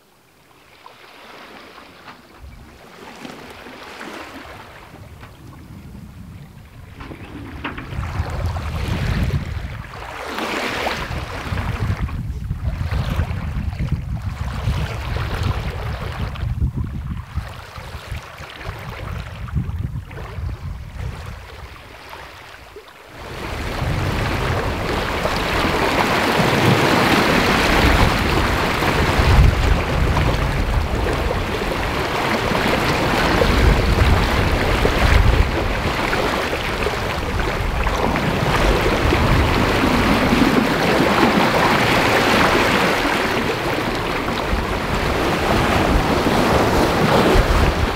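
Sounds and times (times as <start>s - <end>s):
wake water rushing past hull: 0.0s - 47.9s
wind buffeting microphone: 2.3s - 3.0s, 4.2s - 22.1s, 23.2s - 47.9s.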